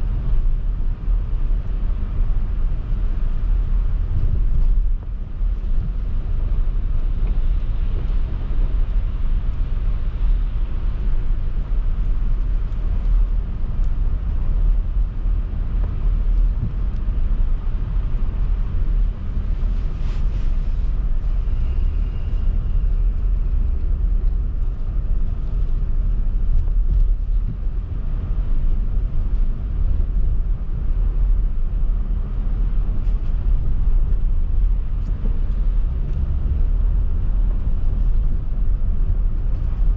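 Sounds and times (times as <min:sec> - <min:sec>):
engine and tyres rumbling: 0:00.0 - 0:39.9.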